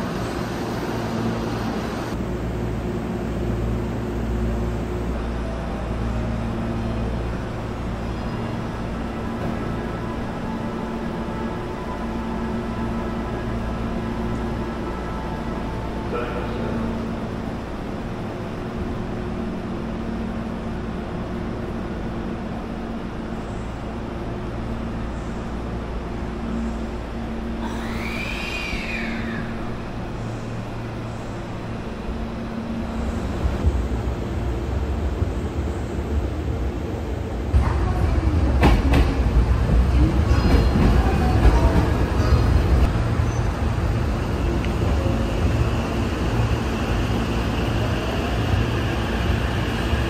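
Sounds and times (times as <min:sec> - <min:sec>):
electric train rumble and hum: 0:00.0 - 0:50.0.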